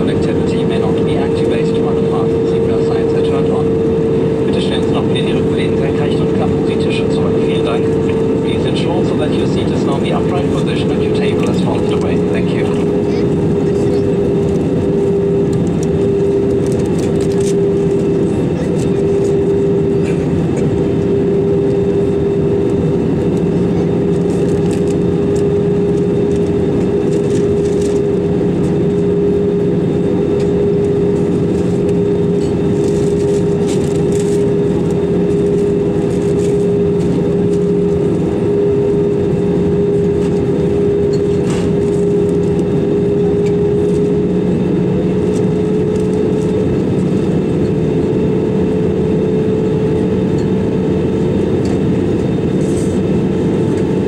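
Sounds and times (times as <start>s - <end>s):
airplane cabin air rush: 0.0s - 54.0s
jet engine hum: 0.0s - 54.0s.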